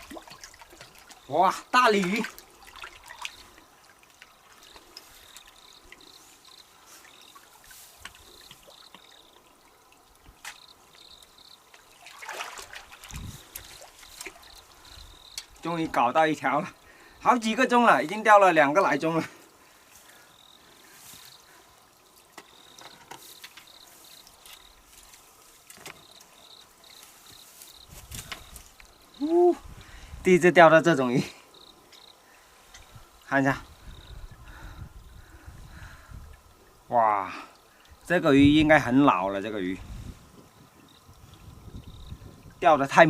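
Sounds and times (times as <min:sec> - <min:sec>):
faint insect chirping: 0:00.0 - 0:43.0
faint trickling water: 0:00.0 - 0:43.0.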